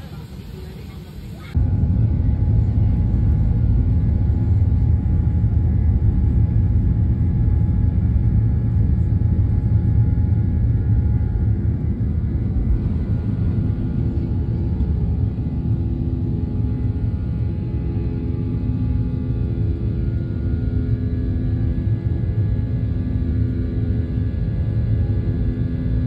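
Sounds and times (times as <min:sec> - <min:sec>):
jet engines at takeoff power: 0:00.0 - 0:26.0.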